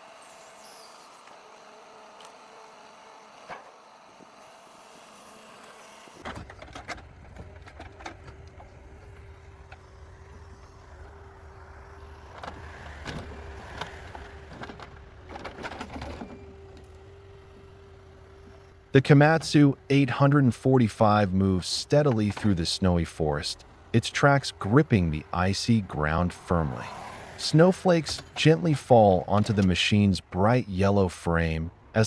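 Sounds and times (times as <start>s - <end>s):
hydraulic whine: 0.0s - 30.1s
diesel engine running: 0.0s - 32.0s.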